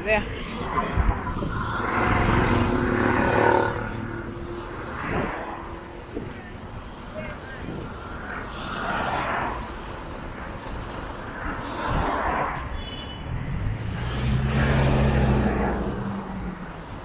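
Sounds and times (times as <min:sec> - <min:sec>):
vehicles passing close: 0:00.0 - 0:17.0.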